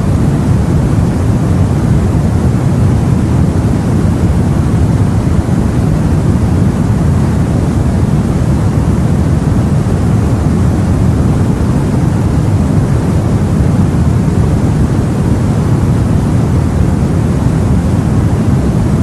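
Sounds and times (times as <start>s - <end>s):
low rumble of the sea: 0.0s - 19.0s.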